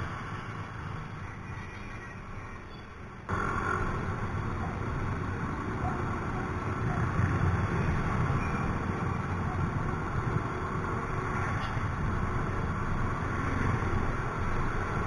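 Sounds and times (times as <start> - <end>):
motorcycles and cars humming: 0.0 - 15.0.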